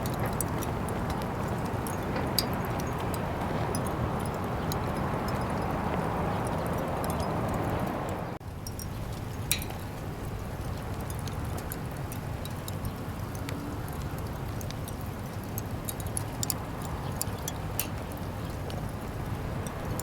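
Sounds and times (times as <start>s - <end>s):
campfire crackling and popping: 0.0s - 20.0s
fire low rumble: 0.0s - 20.0s.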